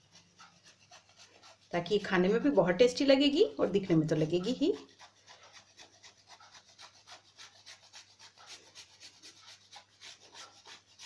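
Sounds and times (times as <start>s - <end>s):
chocolate rasping on grater: 0.0s - 11.0s.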